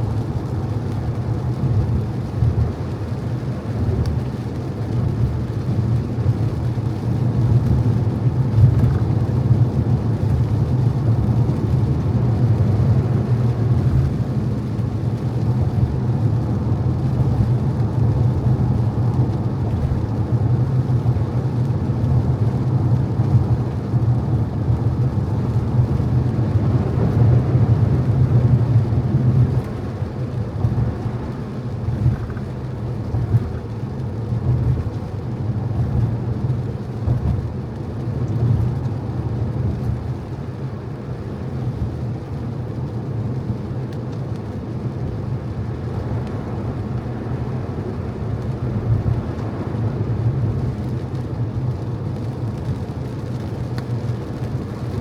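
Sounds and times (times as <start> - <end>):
road rumble: 0.0 - 55.0
tyres hissing on wet road: 0.0 - 55.0.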